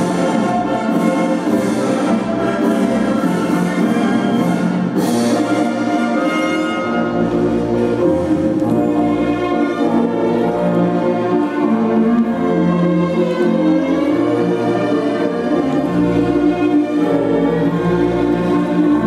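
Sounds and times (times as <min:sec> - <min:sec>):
orchestral music with brass and strings: 0:00.0 - 0:19.0.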